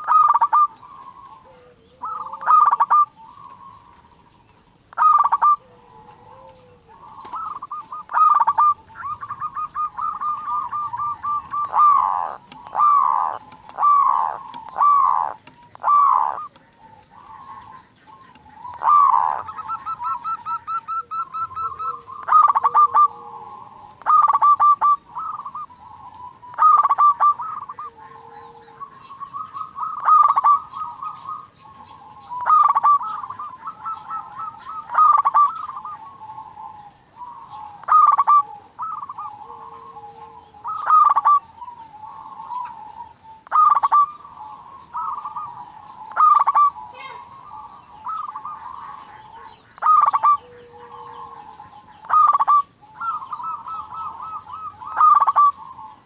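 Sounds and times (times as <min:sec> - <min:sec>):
dove stuttering cooing: 0:00.0 - 0:04.2, 0:04.9 - 0:56.0
soft low dove coos: 0:00.0 - 0:04.2, 0:04.9 - 0:56.0.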